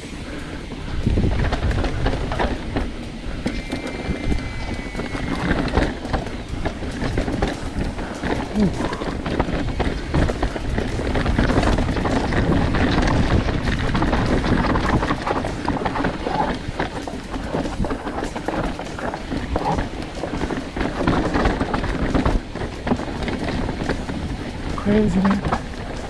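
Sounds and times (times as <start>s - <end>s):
bike knocking and rattling: 0.0s - 26.0s
wind buffeting microphone: 0.0s - 26.0s
tyres crunching on dirt and rock: 0.8s - 26.0s.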